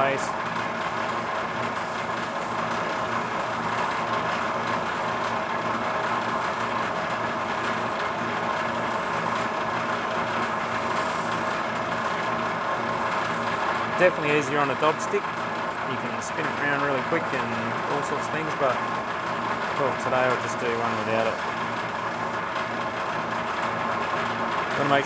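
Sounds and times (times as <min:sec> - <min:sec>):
polishing machine humming: 0:00.0 - 0:25.0.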